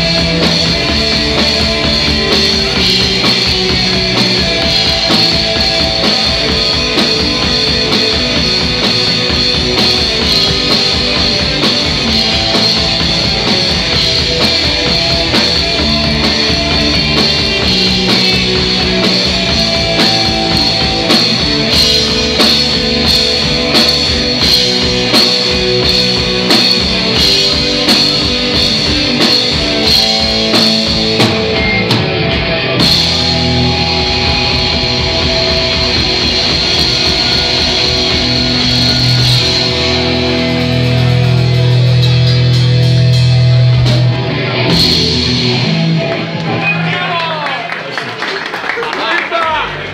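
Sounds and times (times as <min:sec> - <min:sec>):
drum kit: 0:00.0 - 0:47.4
bass guitar: 0:00.0 - 0:47.8
electric guitars: 0:00.0 - 0:48.8.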